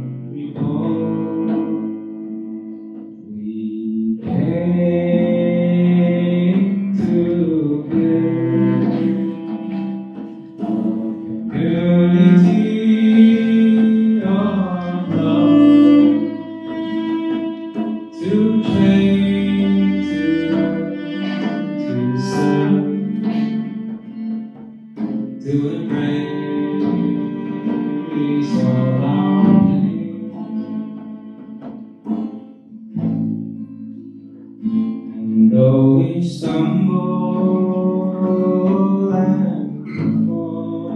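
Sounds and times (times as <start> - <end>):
person singing: 0.0 - 32.4, 34.6 - 40.9
bowed string instrument long notes: 0.0 - 40.9
guitar: 0.0 - 40.9.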